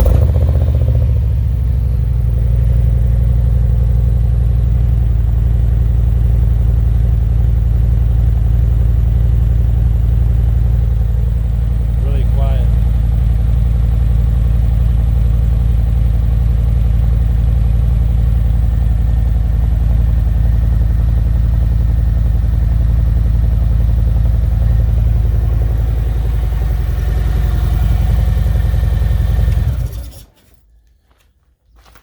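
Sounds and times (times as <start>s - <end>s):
motorcycle engine idling: 0.0s - 30.7s.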